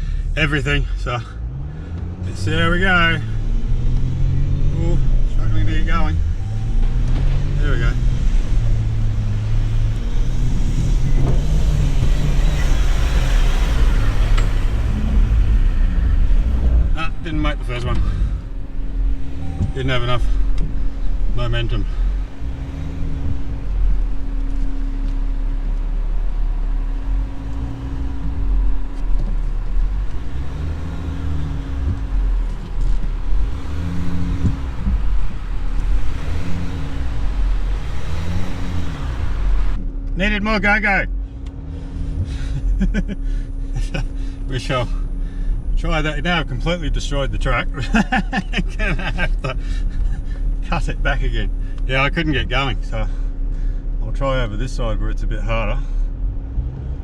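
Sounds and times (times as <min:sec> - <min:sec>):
engine labouring under load: 0:00.0 - 0:57.0.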